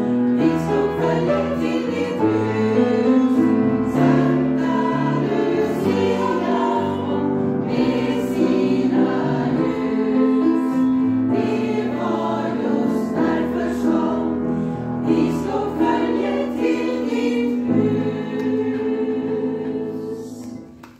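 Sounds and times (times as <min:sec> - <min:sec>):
women's choir singing: 0:00.0 - 0:20.8
piano accompaniment: 0:00.0 - 0:20.9.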